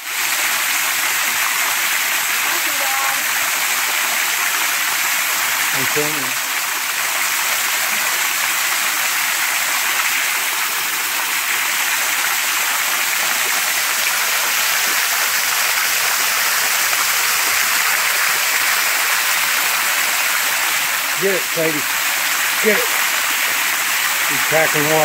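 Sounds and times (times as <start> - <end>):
small waterfall splashing: 0.0 - 25.0.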